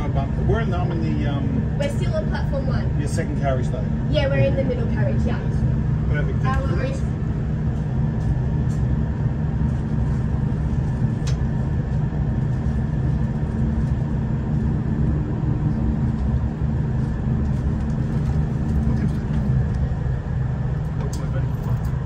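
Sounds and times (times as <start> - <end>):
diesel railcar engine idling: 0.0 - 22.0.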